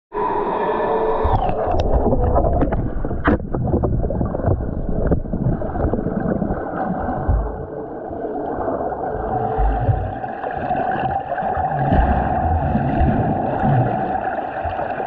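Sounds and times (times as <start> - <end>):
swimmer churning pool water: 0.2 - 15.0
water bubbling: 0.2 - 15.0.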